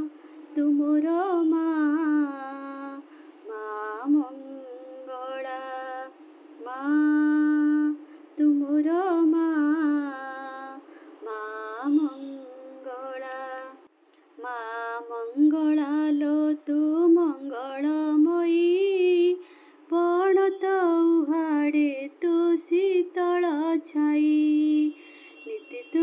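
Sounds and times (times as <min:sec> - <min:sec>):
woman singing devotional song: 0:00.0 - 0:26.0.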